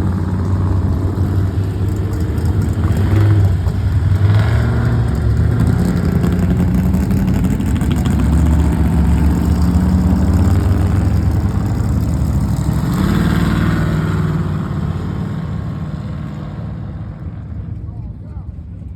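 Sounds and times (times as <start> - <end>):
car engines rumbling past: 0.0 - 18.9.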